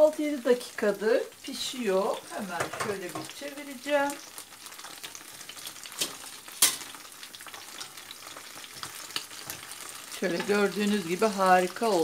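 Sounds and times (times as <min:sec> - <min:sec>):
green beans sizzling in a frying pan: 0:00.0 - 0:12.0.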